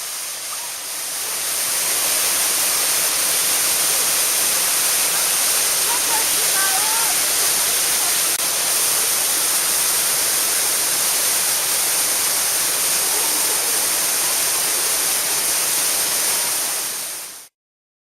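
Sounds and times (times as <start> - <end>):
waterfall rushing: 0.0 - 17.5.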